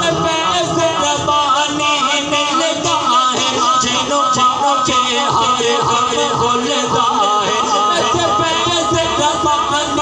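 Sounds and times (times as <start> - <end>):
man singing devotional chant: 0.0 - 10.0.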